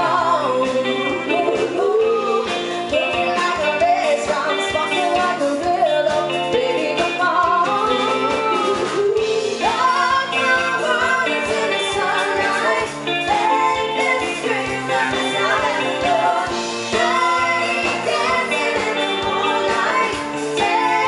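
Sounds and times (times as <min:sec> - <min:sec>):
pop song with lead vocal: 0:00.0 - 0:21.0.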